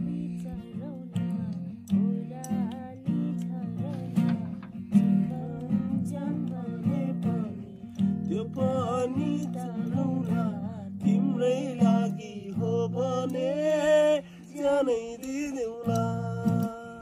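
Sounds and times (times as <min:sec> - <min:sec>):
acoustic guitar strumming chords: 0:00.0 - 0:17.0
person singing: 0:00.0 - 0:17.0.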